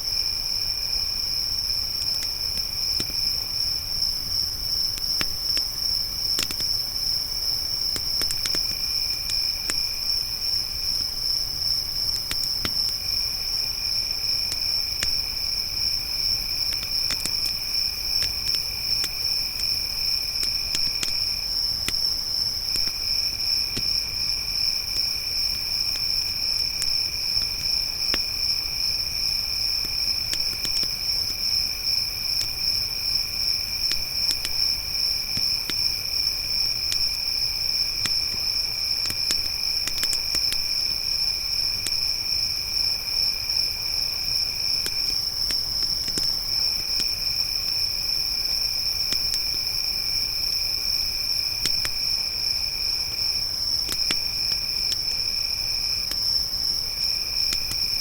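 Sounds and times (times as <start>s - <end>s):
crickets chirring: 0.0s - 58.0s
campfire crackling and popping: 1.6s - 42.5s, 44.3s - 47.4s, 48.2s - 52.5s, 53.1s - 58.0s.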